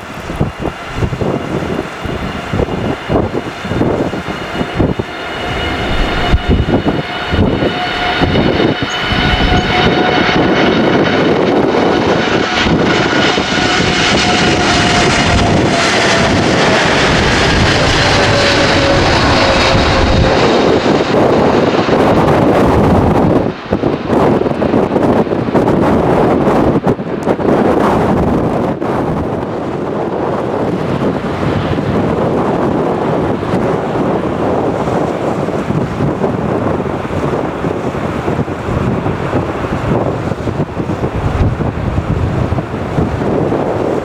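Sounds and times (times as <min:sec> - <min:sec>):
jet airliner passing: 0:00.0 - 0:44.0
wind buffeting microphone: 0:00.0 - 0:44.0.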